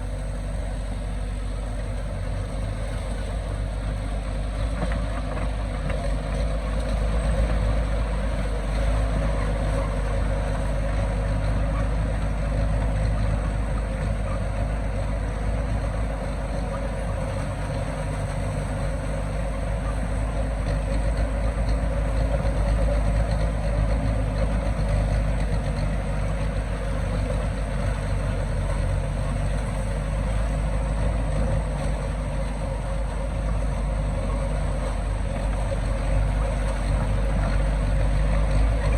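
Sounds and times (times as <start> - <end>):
heavy diesel machinery rumbling: 0.0 - 38.9.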